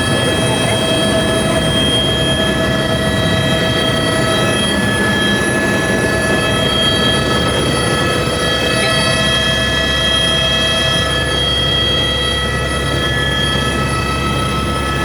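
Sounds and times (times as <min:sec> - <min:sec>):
steady whining tones: 0:00.0 - 0:15.0.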